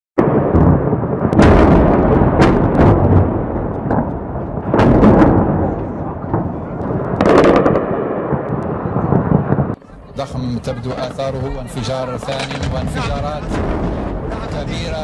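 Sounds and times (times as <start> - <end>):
heavy explosion blasts: 0.2 - 11.3, 12.1 - 15.0
deep rumble: 0.2 - 15.0.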